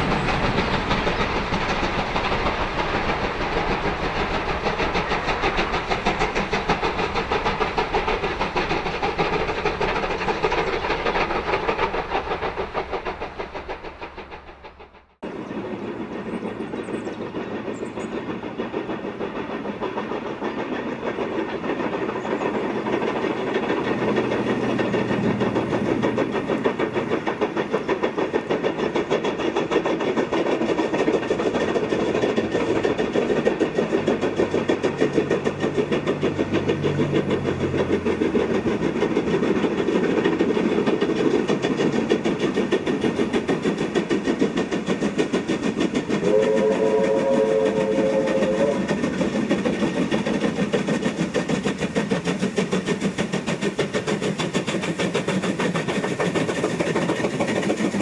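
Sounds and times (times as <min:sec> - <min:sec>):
steam locomotive chuffing: 0:00.0 - 0:58.0.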